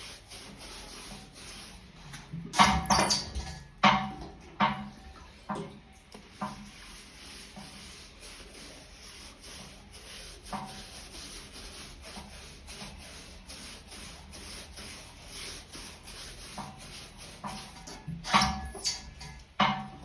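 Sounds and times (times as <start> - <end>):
brush scrubbing on rubber: 0.0 - 3.7, 6.1 - 20.0.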